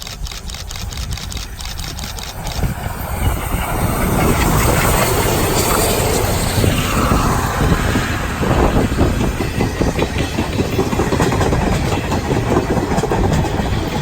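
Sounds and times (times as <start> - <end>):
train rumble: 0.0 - 14.0
train wheels clattering over rail joints: 0.0 - 14.0.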